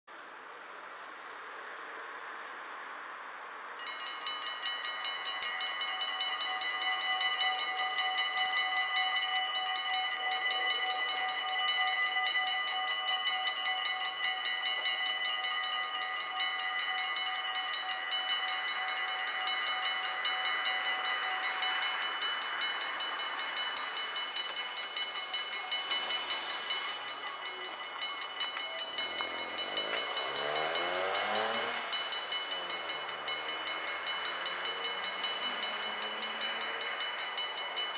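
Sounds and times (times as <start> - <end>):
rushing noise: 1.9 - 37.9
level crossing warning bells: 3.8 - 37.9.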